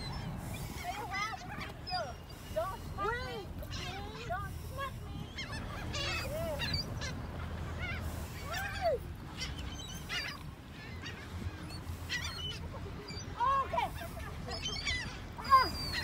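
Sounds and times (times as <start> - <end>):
gulls squawking: 0.0 - 16.0.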